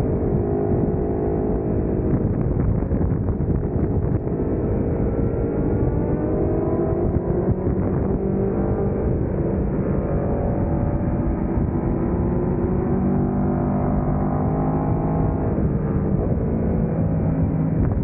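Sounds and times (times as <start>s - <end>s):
wind rush on microphone: 0.0s - 18.0s.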